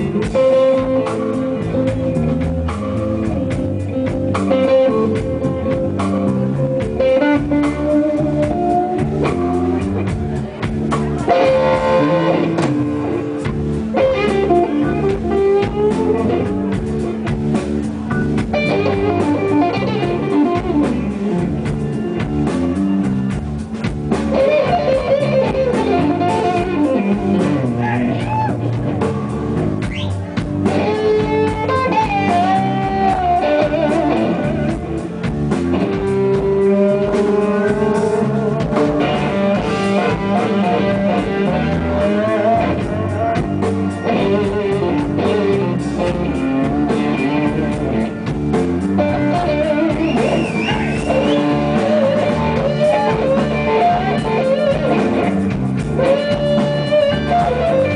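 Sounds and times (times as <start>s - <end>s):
bass guitar: 0.0s - 57.9s
drum kit: 0.0s - 57.9s
electric guitar lead: 0.0s - 57.9s.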